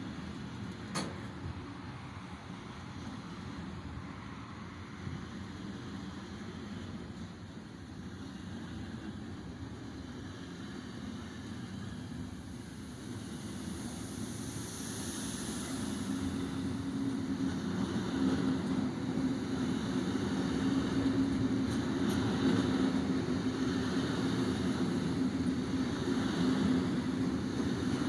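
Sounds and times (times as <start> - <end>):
freight train wheels on rails: 0.0 - 28.0
train hum: 0.0 - 28.0.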